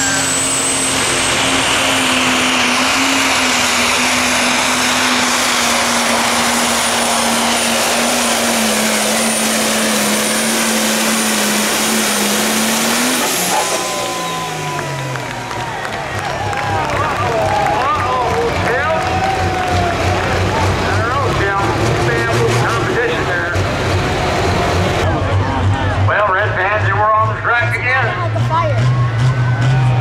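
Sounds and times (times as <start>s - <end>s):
diesel tractor engine roaring: 0.0s - 30.0s.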